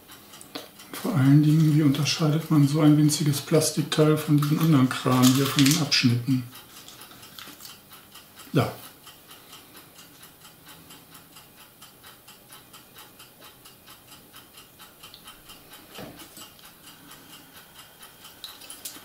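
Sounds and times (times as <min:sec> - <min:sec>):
faint steady ticking: 0:00.0 - 0:19.0.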